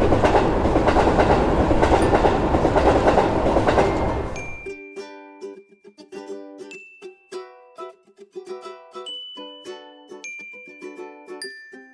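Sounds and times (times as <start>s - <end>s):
plucked-string tune with beat: 1.8s - 11.9s.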